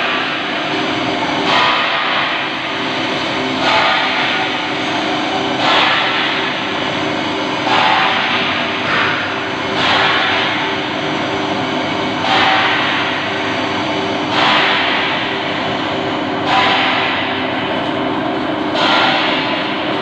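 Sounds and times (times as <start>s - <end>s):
plate rolling machine hum: 0.0s - 20.0s
rough noisy machine surge: 0.0s - 20.0s.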